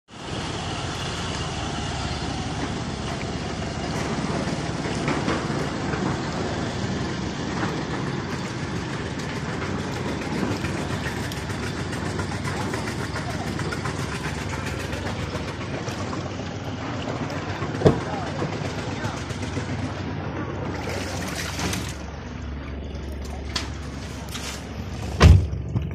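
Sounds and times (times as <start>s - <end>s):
vehicle engine running: 0.1s - 25.9s.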